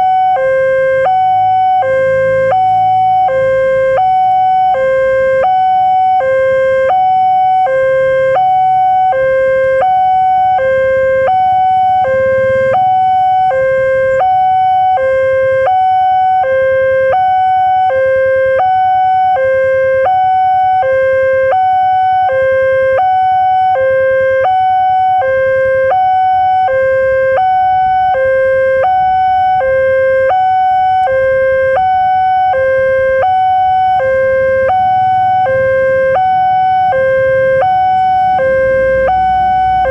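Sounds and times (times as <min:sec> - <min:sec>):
electronic two-tone alarm: 0:00.0 - 0:39.9.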